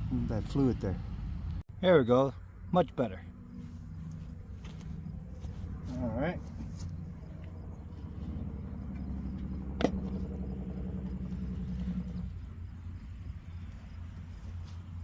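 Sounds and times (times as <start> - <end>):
low rumble: 2.4 - 15.0.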